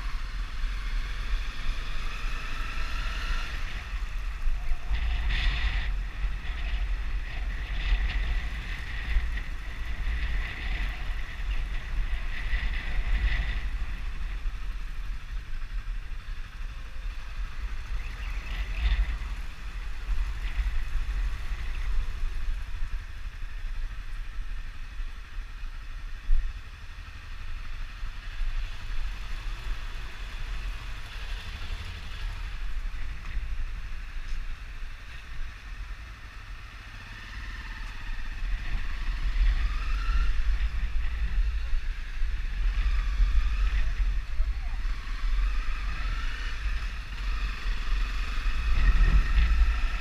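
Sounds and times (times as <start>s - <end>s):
motorcycle engine running: 0.0s - 50.0s
wind rumble on microphone: 0.0s - 50.0s.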